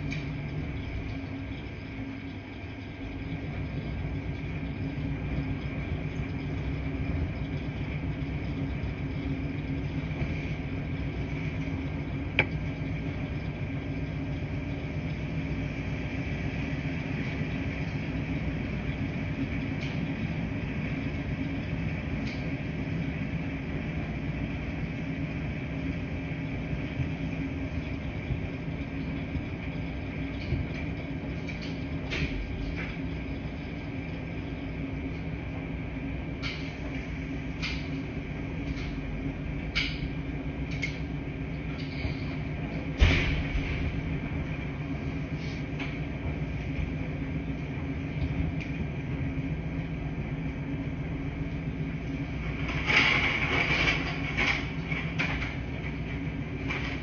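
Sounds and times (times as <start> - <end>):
washing machines humming: 0.0 - 57.0.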